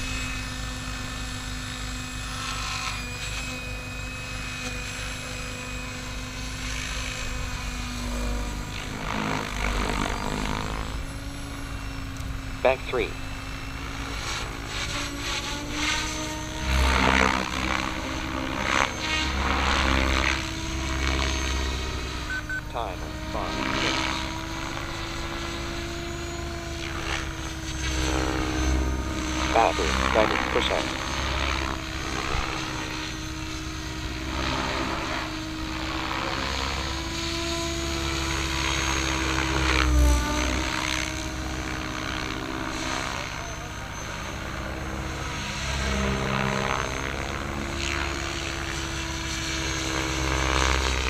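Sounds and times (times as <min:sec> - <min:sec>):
rc helicopter motor whine: 0:00.0 - 0:51.0
rotor blade noise: 0:00.0 - 0:51.0.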